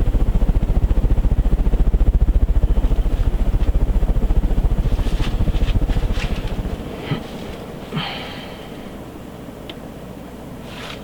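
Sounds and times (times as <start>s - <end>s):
ceiling fan air buffeting microphone: 0.0s - 11.0s.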